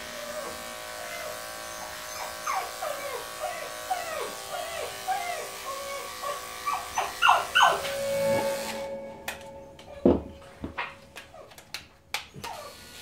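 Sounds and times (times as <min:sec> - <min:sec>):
electric clippers humming: 0:00.0 - 0:11.5, 0:12.3 - 0:13.0
dog whimpering: 0:00.0 - 0:11.6.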